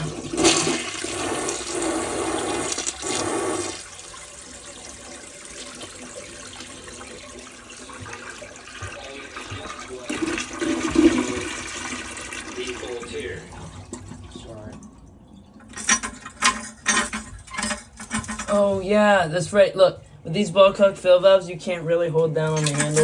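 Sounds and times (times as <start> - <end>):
water running into tank: 0.0 - 18.0, 22.4 - 23.0
toilet flushing: 0.0 - 18.6, 22.4 - 23.0.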